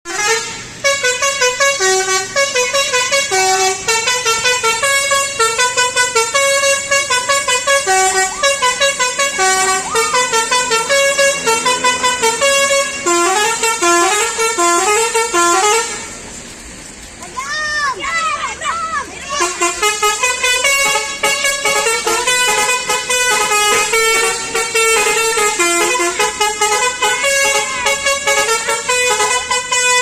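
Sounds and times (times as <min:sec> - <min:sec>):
multi-tone air horn melody: 0:00.1 - 0:16.4, 0:19.3 - 0:30.0.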